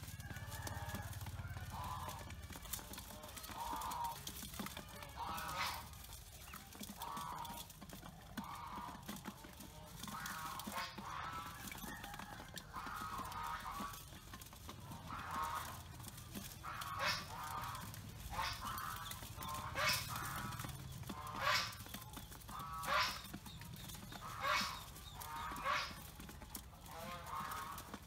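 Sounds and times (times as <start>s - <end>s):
waterfowl honking: 0.5s - 28.0s.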